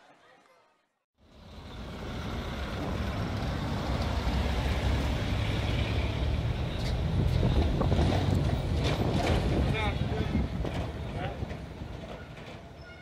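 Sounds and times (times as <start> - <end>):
bus driving past on cobbles: 1.2 - 12.8.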